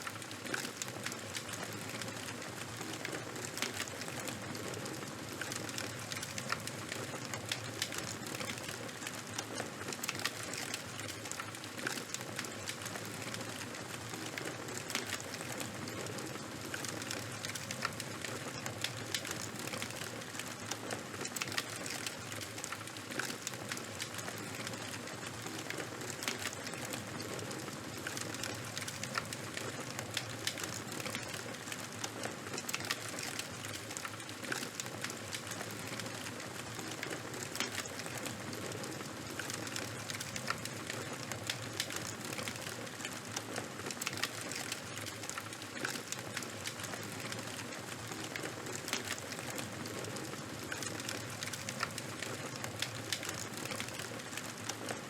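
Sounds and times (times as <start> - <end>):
fire crackling: 0.0 - 55.0.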